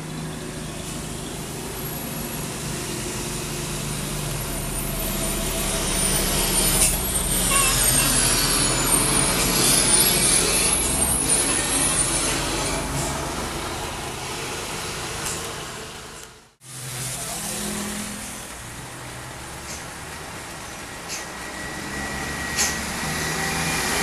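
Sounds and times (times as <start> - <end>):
diesel trucks passing: 0.0 - 24.0
steady traffic noise: 0.0 - 24.0.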